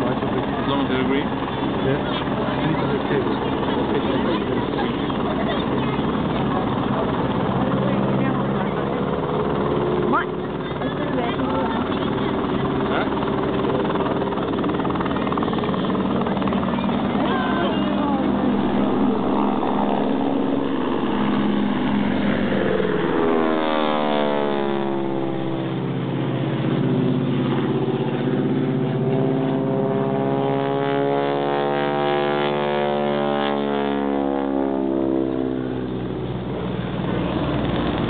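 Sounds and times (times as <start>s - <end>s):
propeller plane droning overhead: 0.0s - 38.0s.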